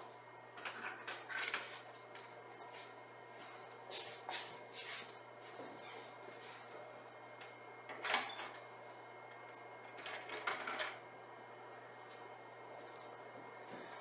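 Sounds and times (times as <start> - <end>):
cooling fan hum: 0.0 - 14.0.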